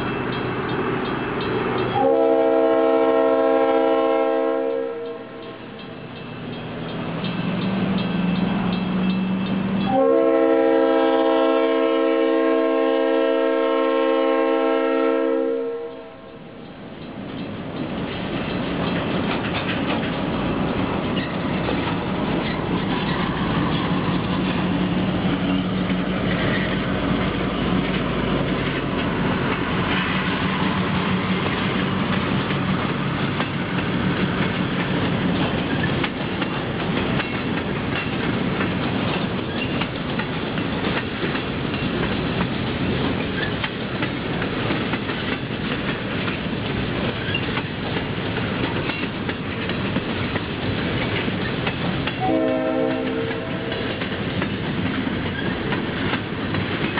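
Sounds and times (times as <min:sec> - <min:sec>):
train wheels clacking on rail joints: 0:00.0 - 0:13.8, 0:15.9 - 0:56.9
locomotive engine humming: 0:00.0 - 0:56.9.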